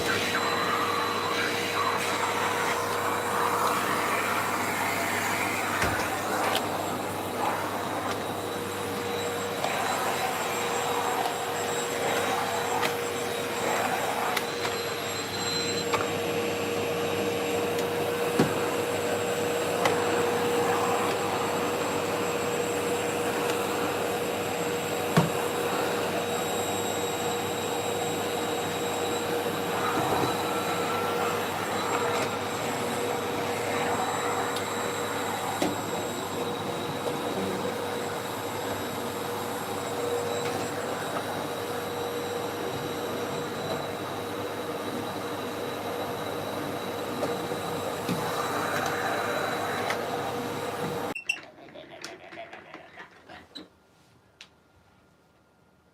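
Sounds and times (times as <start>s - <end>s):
vacuum cleaner running: 0.0s - 51.2s.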